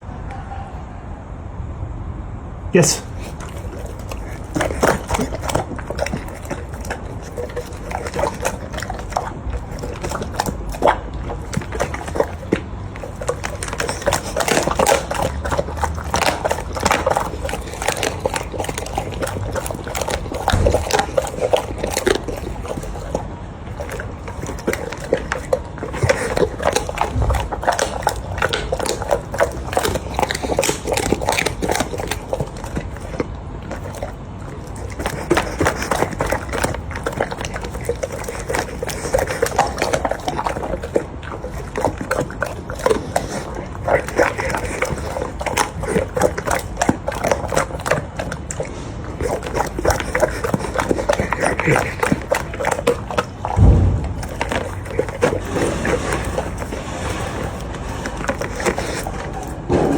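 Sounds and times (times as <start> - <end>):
cat eating: 2.8 - 59.9.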